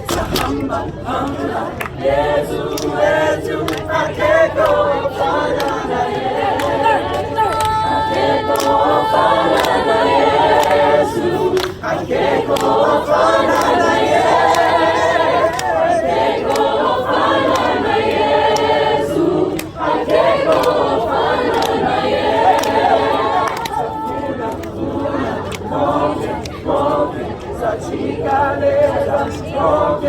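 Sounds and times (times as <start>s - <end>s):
choir singing in harmony: 0.0s - 30.0s.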